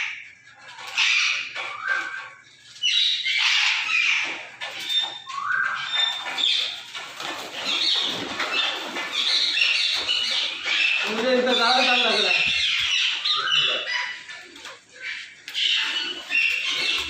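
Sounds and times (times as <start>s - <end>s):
parrots calling: 0.0s - 17.0s.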